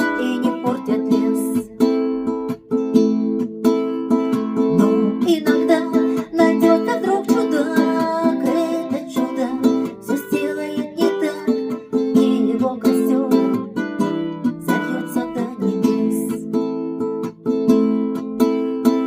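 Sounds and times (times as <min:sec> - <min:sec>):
guitar strumming and picking: 0:00.0 - 0:19.0.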